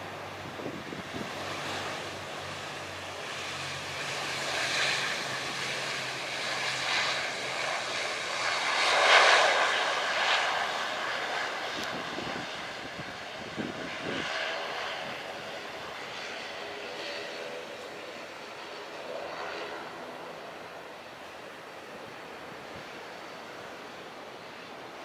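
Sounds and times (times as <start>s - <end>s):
turboprop engine and propeller noise: 0.0s - 25.0s.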